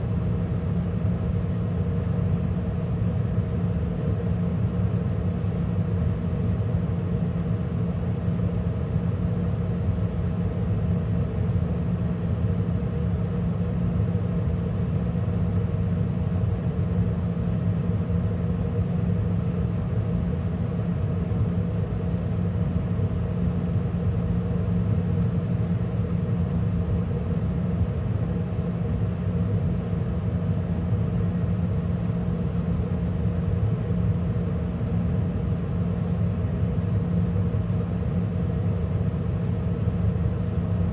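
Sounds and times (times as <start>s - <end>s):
gas furnace running: 0.0s - 40.9s.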